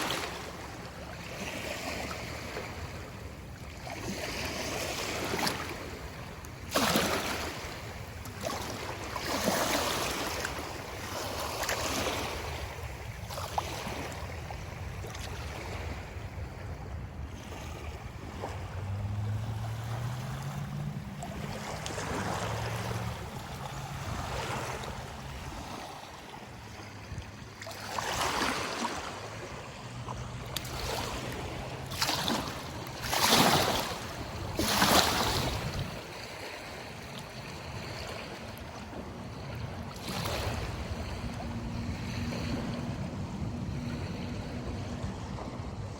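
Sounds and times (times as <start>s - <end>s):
river water rushing: 0.0s - 14.3s, 17.4s - 45.9s
wind on microphone: 0.0s - 45.9s.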